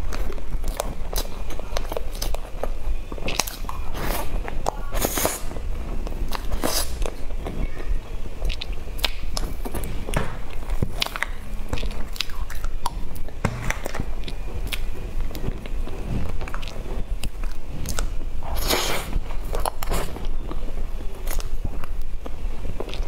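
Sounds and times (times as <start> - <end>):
wet chewing and lip smacks: 0.0 - 7.5, 8.4 - 23.0.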